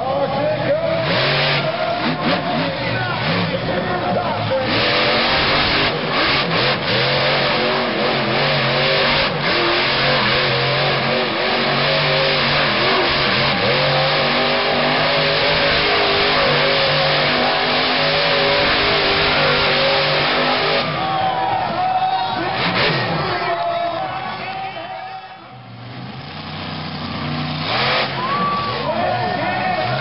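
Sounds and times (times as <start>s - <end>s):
truck engine revving loudly: 0.0s - 23.6s, 25.6s - 30.0s.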